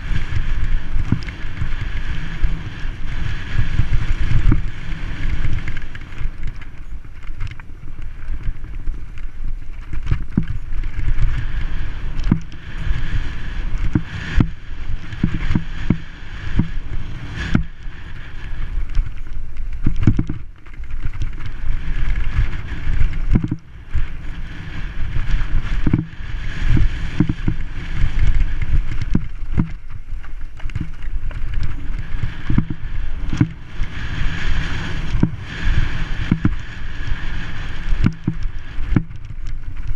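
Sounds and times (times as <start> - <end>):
bike rattling over bumps: 0.0 - 39.9
wind buffeting microphone: 0.0 - 39.9.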